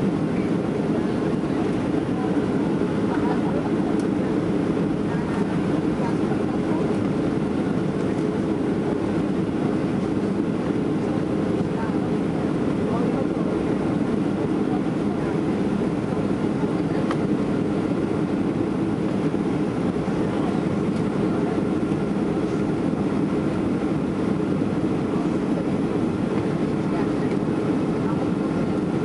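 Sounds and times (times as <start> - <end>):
airplane cabin engine rush: 0.0 - 29.0.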